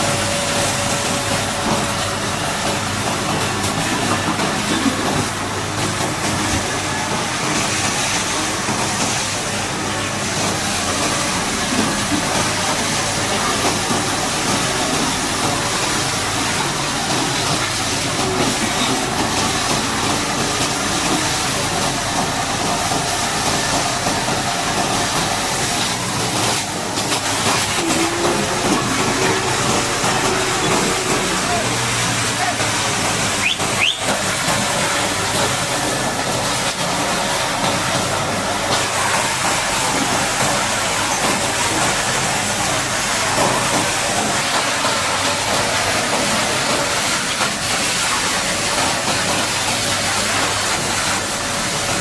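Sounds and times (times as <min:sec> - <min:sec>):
engine running: 0:00.0 - 0:52.0
high-pressure water spray hissing: 0:00.0 - 0:52.0.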